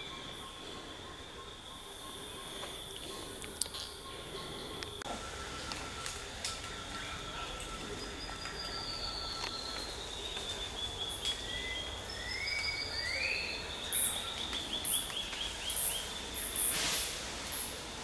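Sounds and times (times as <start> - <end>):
birds singing: 0.0 - 16.8
insect drone: 0.0 - 18.0.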